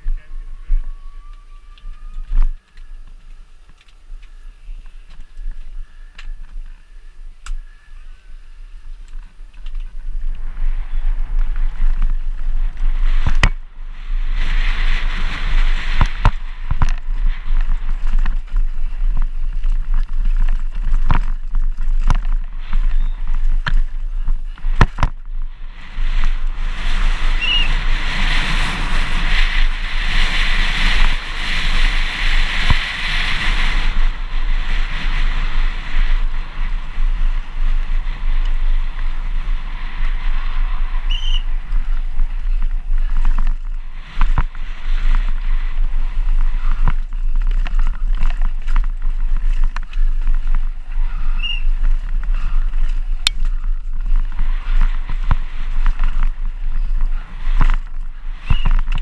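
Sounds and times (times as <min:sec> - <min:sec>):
bike rattling over bumps: 0:00.0 - 0:59.0
wind buffeting microphone: 0:00.0 - 0:59.0.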